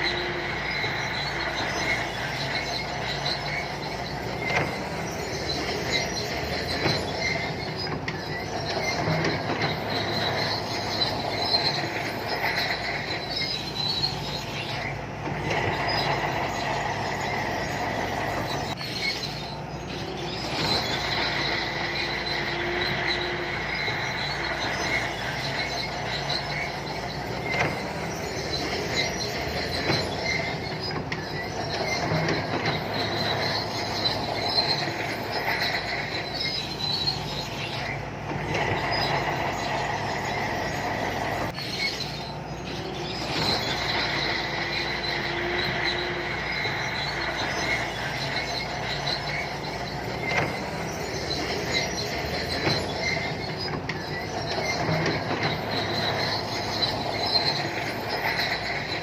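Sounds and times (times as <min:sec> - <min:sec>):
bulldozer diesel engine: 0:00.0 - 0:59.0
steel tracks squealing and clanking: 0:00.0 - 0:59.0.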